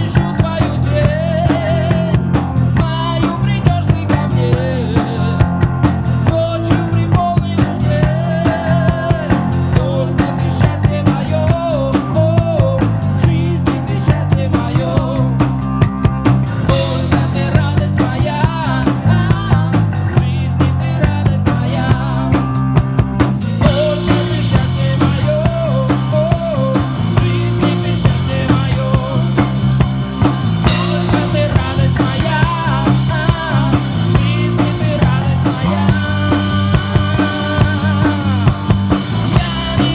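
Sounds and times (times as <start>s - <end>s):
bass guitar: 0.0s - 39.9s
drums: 0.0s - 39.9s.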